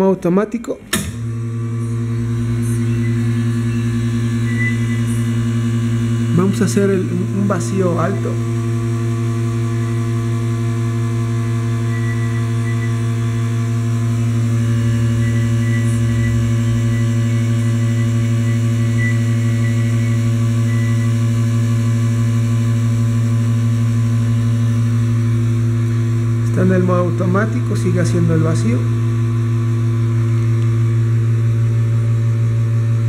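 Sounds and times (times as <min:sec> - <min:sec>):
vacuum pump humming: 0:00.0 - 0:33.0.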